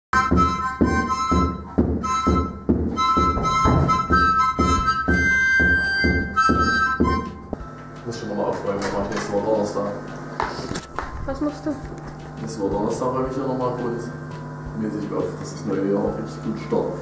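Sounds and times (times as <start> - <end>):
drums keeping a steady beat: 0.2 - 17.0
harmonica playing a tune: 0.2 - 17.0.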